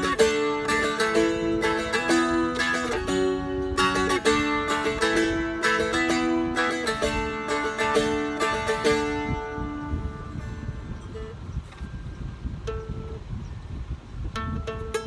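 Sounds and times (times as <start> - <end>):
plucked and strummed guitar: 0.0 - 13.3, 14.3 - 15.0.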